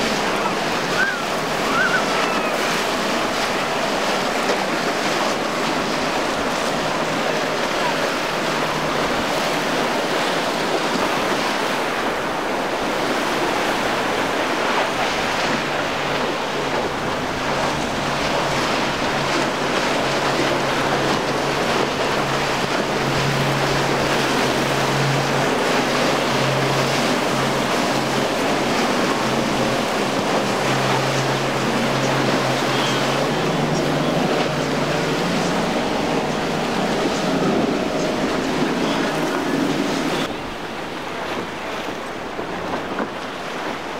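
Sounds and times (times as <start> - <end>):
outboard motors droning: 0.0 - 43.9
surf and waves: 0.0 - 43.9.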